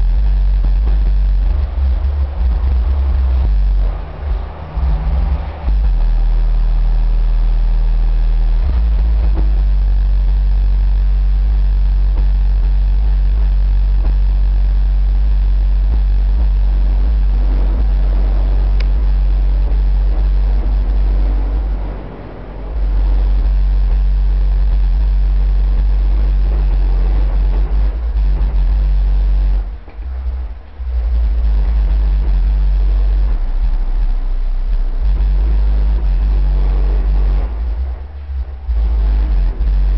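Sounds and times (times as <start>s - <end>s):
subwoofer sub-bass music: 0.0s - 39.9s.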